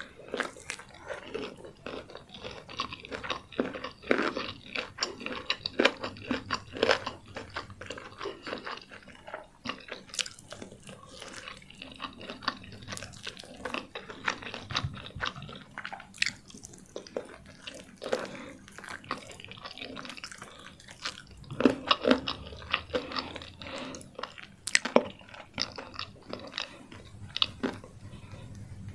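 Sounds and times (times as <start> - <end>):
chewing crispy fried chicken: 0.0 - 28.9.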